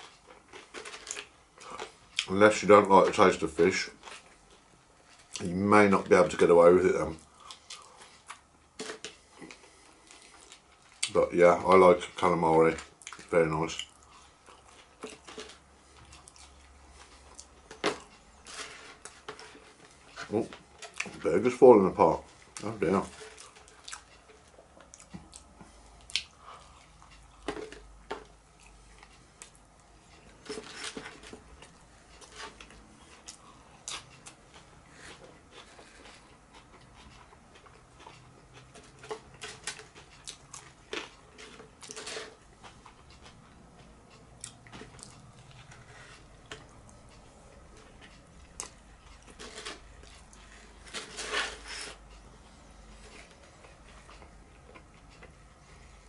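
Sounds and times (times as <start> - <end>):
person chewing crunchy food: 0.0 - 2.3, 7.2 - 11.2, 12.8 - 21.3, 22.2 - 56.0.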